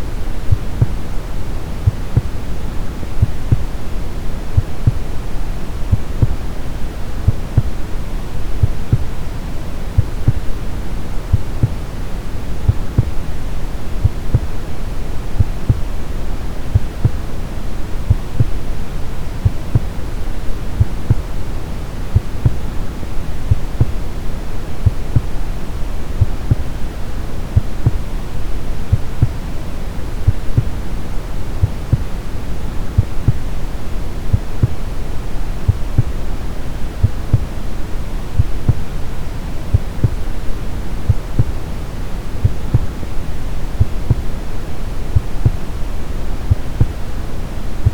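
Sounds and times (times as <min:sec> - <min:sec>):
soft heartbeat: 0:00.0 - 0:11.9, 0:12.6 - 0:17.4, 0:18.0 - 0:18.8, 0:19.4 - 0:21.4, 0:22.1 - 0:29.5, 0:30.2 - 0:36.4, 0:37.0 - 0:39.0, 0:39.7 - 0:41.7, 0:42.4 - 0:47.2
deep steady hiss: 0:00.0 - 0:47.9.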